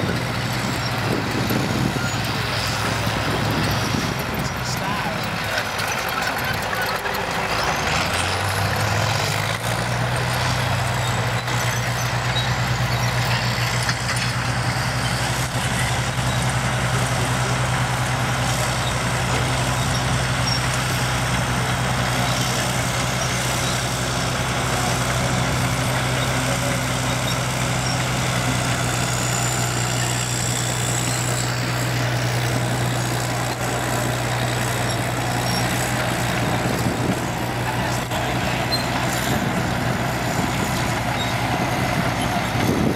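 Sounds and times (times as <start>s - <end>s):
diesel tractor engine under load: 0.0s - 42.9s.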